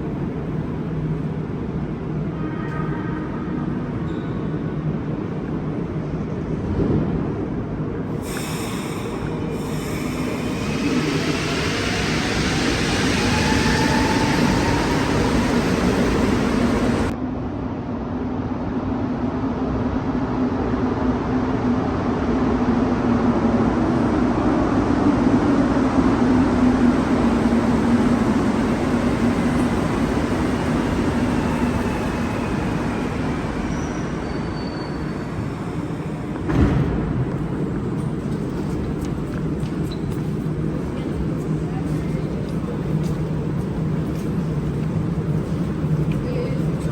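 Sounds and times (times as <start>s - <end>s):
metro train rumbling: 0.0s - 46.9s.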